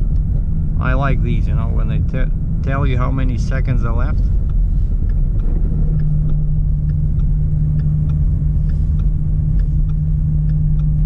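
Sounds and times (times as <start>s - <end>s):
car cabin engine drone: 0.0s - 11.0s
faint ticking: 1.4s - 11.0s.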